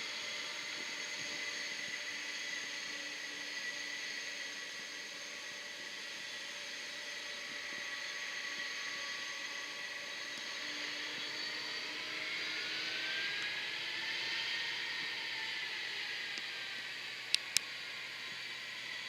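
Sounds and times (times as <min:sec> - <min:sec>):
jet engines whining: 0:00.0 - 0:19.0.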